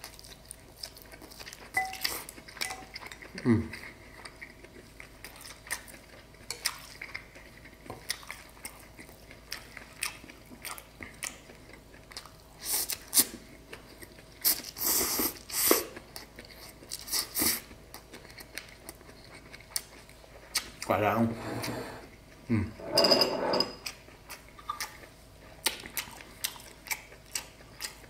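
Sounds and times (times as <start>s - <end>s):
chewing noodles: 0.0s - 20.9s, 23.8s - 28.0s.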